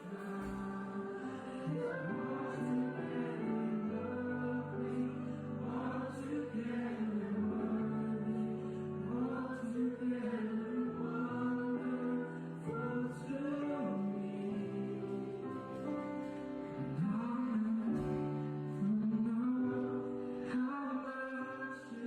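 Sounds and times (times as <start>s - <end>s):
worship singing: 0.0s - 22.0s.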